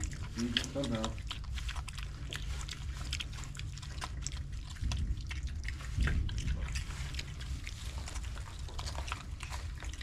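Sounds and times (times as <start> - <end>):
piglets chewing feed: 0.0 - 10.0.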